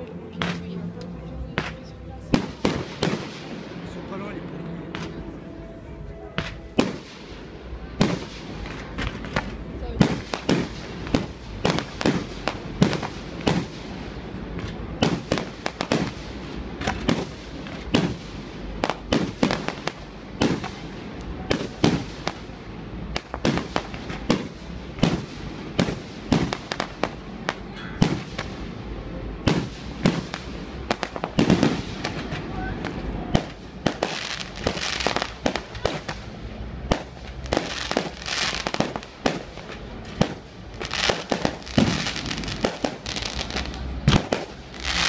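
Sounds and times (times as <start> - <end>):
fireworks bursting with sharp bangs: 0.0 - 5.6, 6.2 - 45.0.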